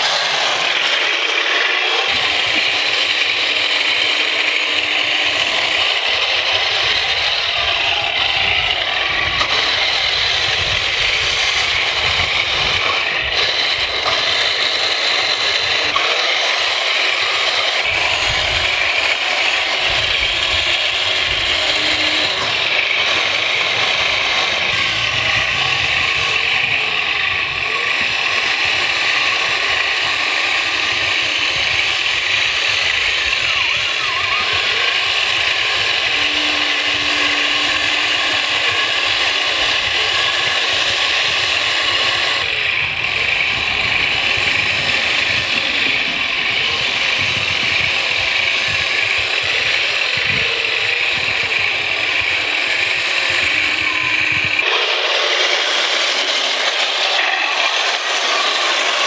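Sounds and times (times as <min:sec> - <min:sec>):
toy tank tracks rattling and whirring: 0:00.0 - 0:59.0.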